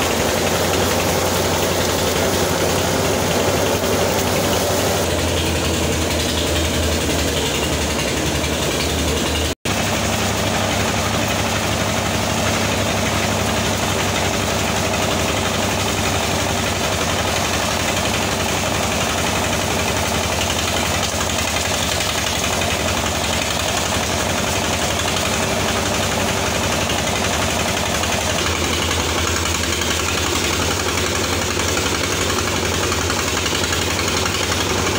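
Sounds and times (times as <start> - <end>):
engine humming: 0.0 - 34.9
threshing drum whirring: 0.0 - 34.9.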